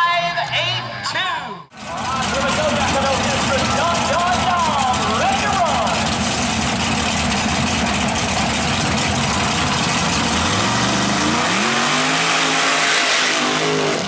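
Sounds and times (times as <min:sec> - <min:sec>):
truck engine revving: 0:01.7 - 0:14.0.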